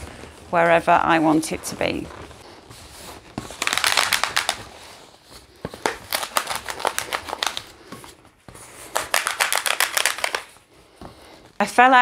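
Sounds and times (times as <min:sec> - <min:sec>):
balloon rubber crinkling: 0:00.0 - 0:11.5.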